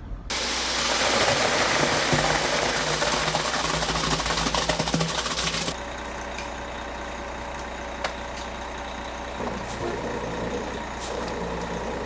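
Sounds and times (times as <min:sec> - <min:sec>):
vehicle engine running: 0:01.4 - 0:12.0.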